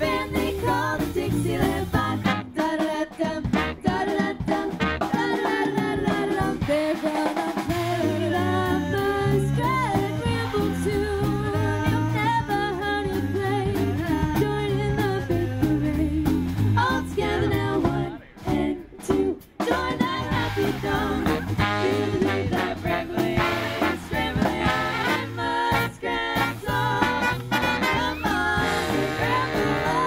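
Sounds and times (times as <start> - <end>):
swing big band playing: 0.0 - 30.0
women singing: 0.0 - 30.0.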